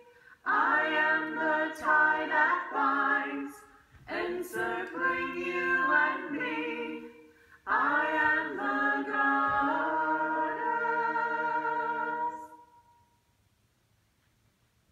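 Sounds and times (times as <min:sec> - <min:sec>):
voices singing a cappella chant: 0:00.0 - 0:13.1.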